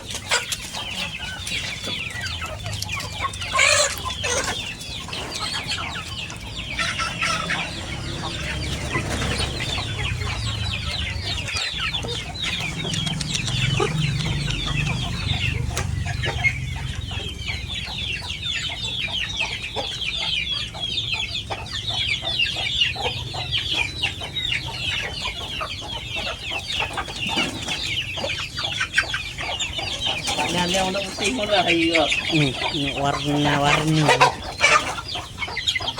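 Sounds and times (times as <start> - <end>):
chickens calling and clucking: 0.0 - 35.9.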